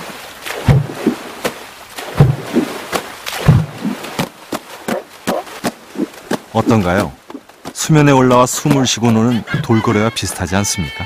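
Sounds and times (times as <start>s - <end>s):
hands slapping water surface: 0.0s - 9.3s
water splashing slaps: 0.0s - 10.5s.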